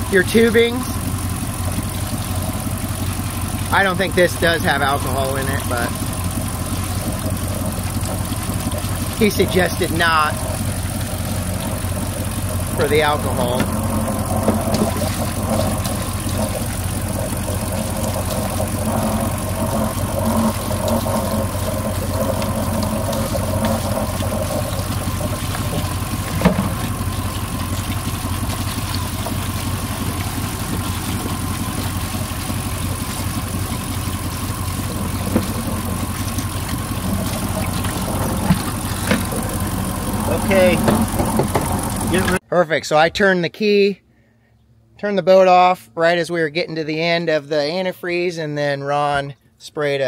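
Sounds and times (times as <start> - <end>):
boat engine idling: 0.0 - 42.4.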